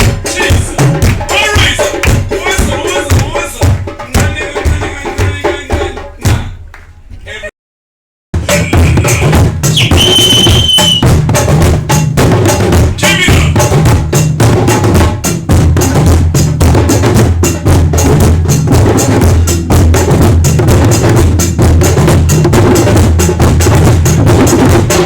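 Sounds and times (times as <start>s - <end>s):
group hand drumming: 0.0s - 7.0s, 8.4s - 25.0s.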